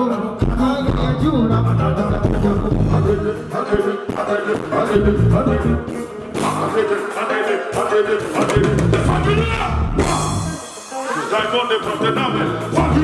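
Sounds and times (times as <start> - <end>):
drum kit: 0.0 - 13.0
live band music: 0.0 - 13.0
person singing: 0.0 - 13.0.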